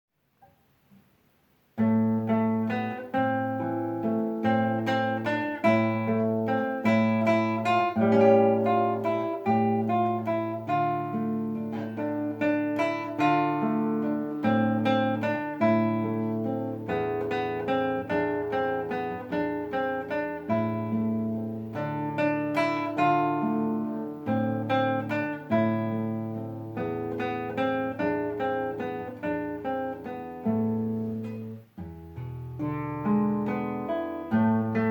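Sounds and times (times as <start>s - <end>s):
solo acoustic guitar: 0.2s - 34.9s.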